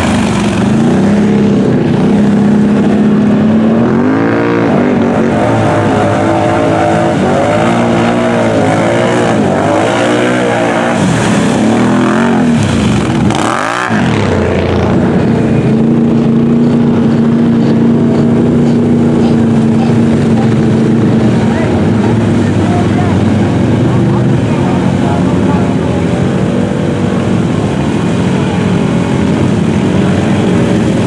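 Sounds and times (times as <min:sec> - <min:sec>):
atv engines revving: 0:00.0 - 0:31.0.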